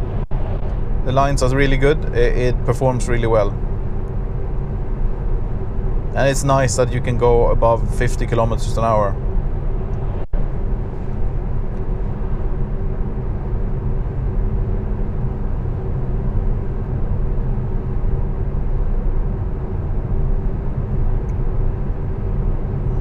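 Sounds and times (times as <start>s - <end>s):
tyre road noise in car cabin: 0.0s - 23.0s.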